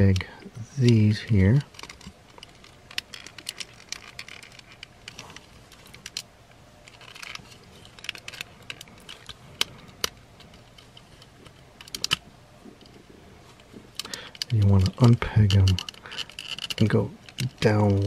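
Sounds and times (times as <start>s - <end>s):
plastic toy parts clicking: 1.7s - 12.2s, 13.9s - 18.0s.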